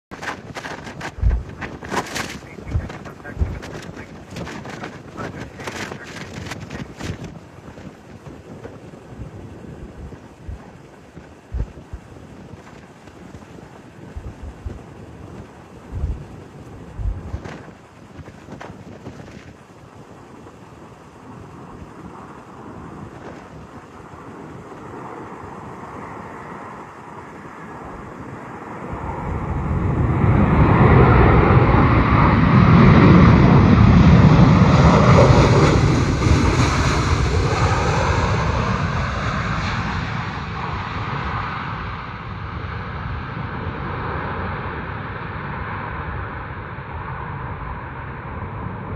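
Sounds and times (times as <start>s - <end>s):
wind buffeting microphone: 0.0s - 40.5s
jet airliner engines roaring: 0.0s - 48.9s.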